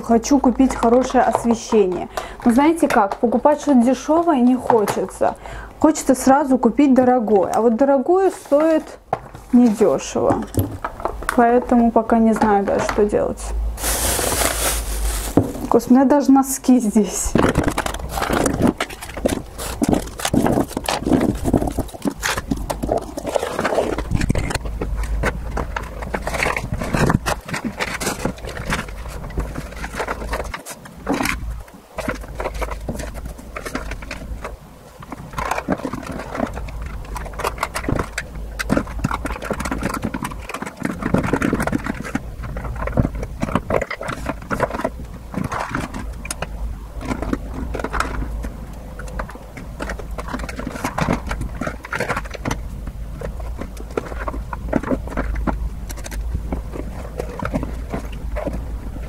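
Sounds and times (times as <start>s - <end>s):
plastic items clicking in drawer: 0.0s - 59.0s.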